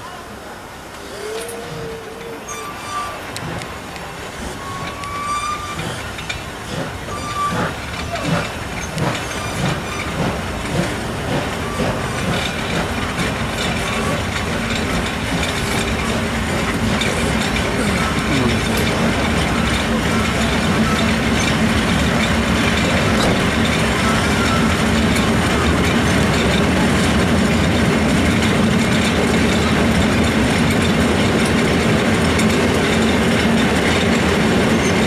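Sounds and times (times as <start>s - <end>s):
train wheel clatter: 1.0s - 35.0s
steam locomotive beats: 2.4s - 35.0s.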